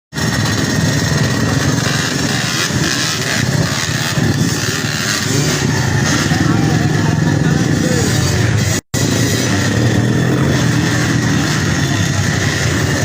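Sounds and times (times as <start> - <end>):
dirt bike engines running: 0.1 - 13.0.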